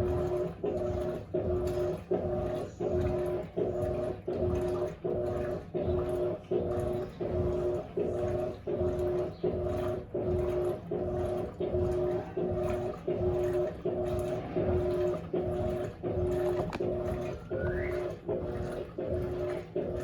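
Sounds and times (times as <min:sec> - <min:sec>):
washing machine motor humming: 0:00.0 - 0:20.0.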